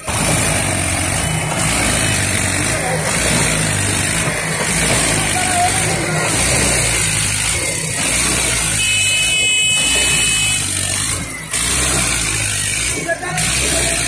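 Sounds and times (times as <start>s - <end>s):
tractor diesel engine straining: 0.0s - 14.0s.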